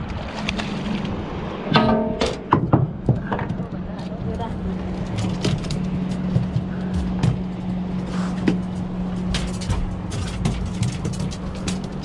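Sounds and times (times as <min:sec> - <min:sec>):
knocks and clatter of handling: 0:01.7 - 0:12.0.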